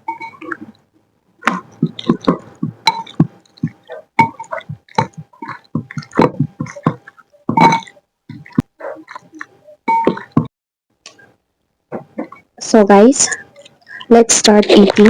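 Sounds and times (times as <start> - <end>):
noodles stirred wet squelches: 0.0 - 11.4, 12.0 - 15.0.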